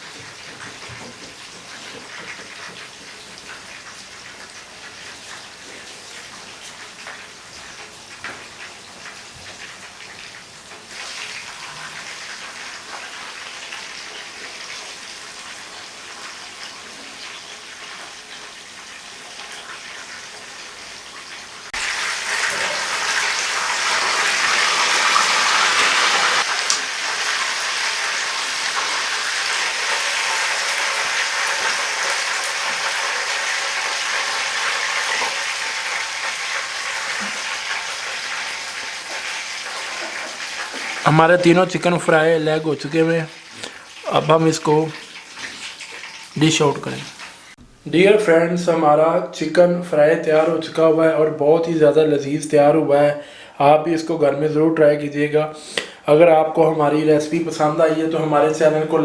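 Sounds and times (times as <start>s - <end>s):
chicken frying in hot ghee: 0.0s - 47.6s.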